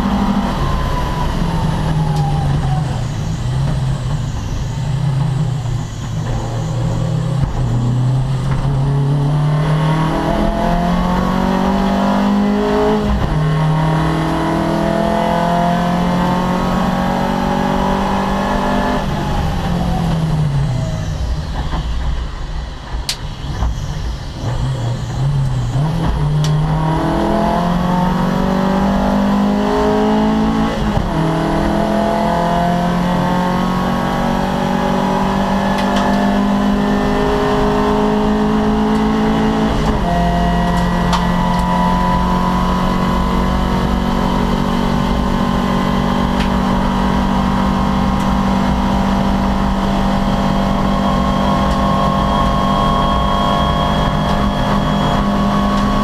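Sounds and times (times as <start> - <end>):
race car engine revving: 0.0 - 22.2, 23.4 - 56.0.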